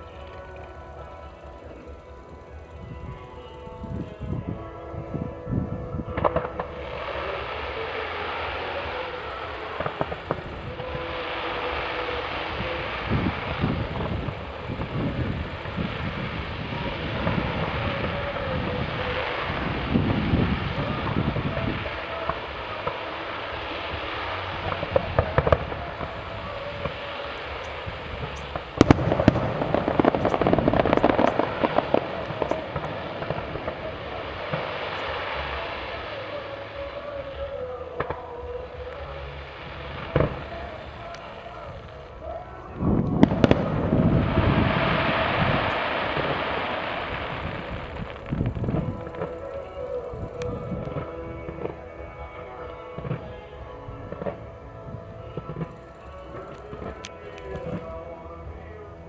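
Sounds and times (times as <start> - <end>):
fireworks hissing: 6.2 - 53.5.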